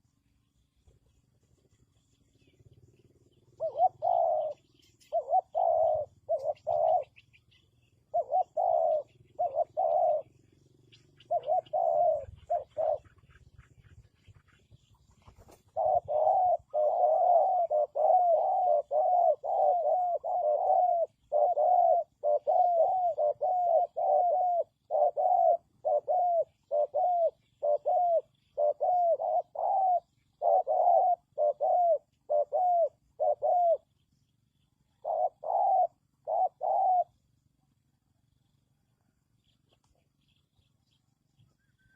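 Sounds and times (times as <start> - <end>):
dove cooing: 2.4 - 34.0, 34.9 - 37.4.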